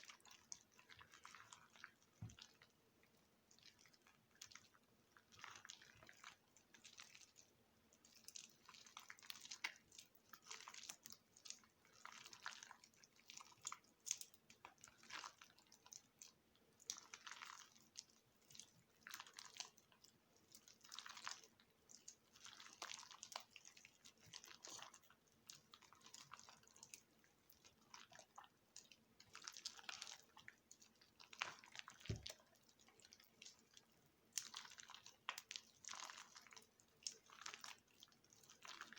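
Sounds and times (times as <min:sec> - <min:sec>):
wet soap crunching: 0:03.6 - 0:38.9.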